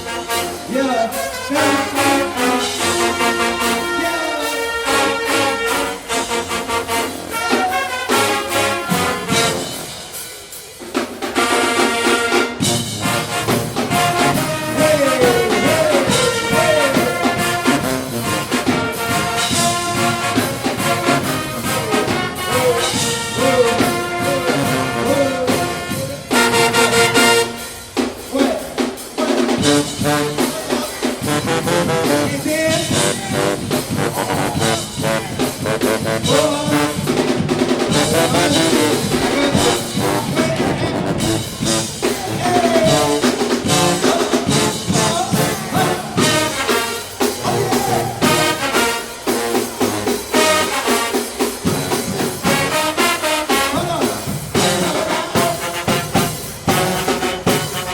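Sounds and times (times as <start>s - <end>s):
drums: 0.0s - 57.9s
marching band brass: 0.0s - 57.9s.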